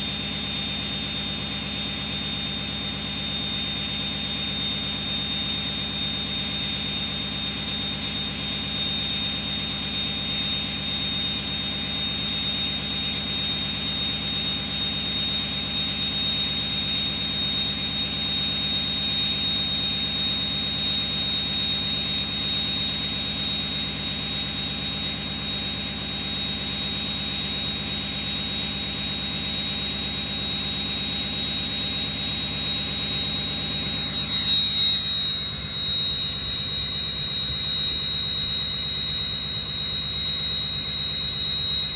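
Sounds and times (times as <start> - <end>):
turbocharger whistle: 0.0 - 41.9.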